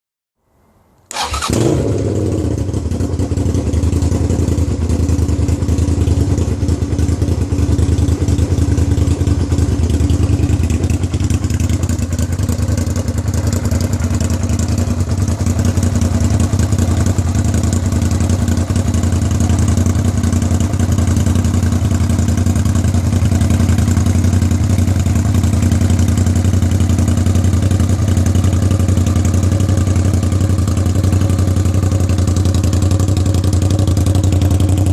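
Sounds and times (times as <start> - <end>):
motorcycle engine idling: 1.1 - 34.9.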